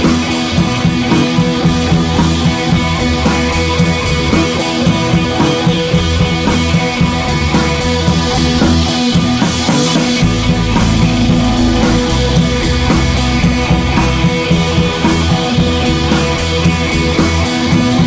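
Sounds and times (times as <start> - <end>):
rock music with guitar and drums: 0.0 - 18.0.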